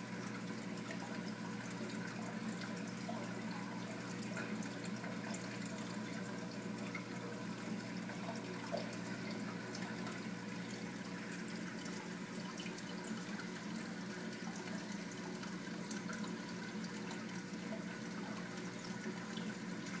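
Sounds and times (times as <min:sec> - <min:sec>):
aquarium water trickling: 0:00.0 - 0:20.0.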